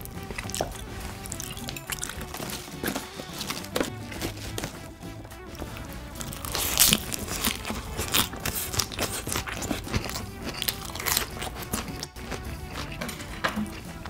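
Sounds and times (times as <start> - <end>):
chewing crisp salad greens: 0.0 - 14.0.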